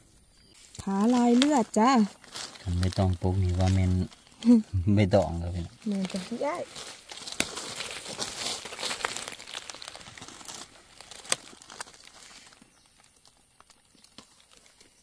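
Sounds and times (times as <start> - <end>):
dry leaves crackling and rustling: 0.4 - 15.0.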